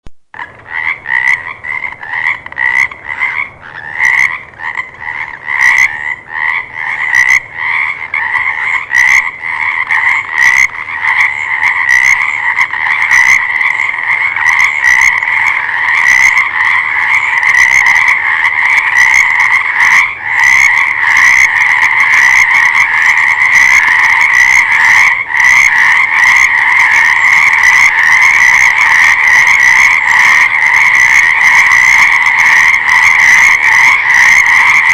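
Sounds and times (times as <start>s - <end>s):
frogs croaking: 0.3s - 34.9s.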